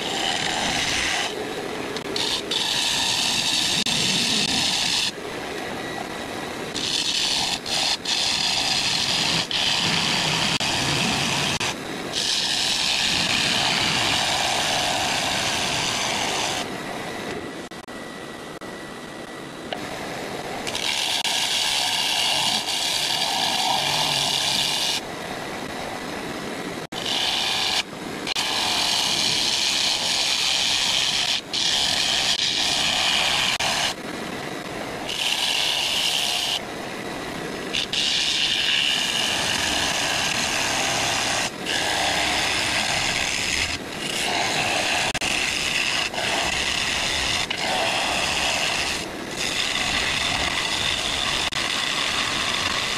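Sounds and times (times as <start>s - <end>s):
gouge cutting wood on lathe: 0.0s - 1.4s, 2.0s - 5.2s, 6.7s - 16.7s, 20.6s - 25.0s, 26.8s - 34.0s, 35.1s - 36.7s, 37.7s - 52.9s
wood lathe running: 0.0s - 1.4s, 2.0s - 5.2s, 6.7s - 16.7s, 20.6s - 25.0s, 26.8s - 34.0s, 35.0s - 36.7s, 37.7s - 52.9s.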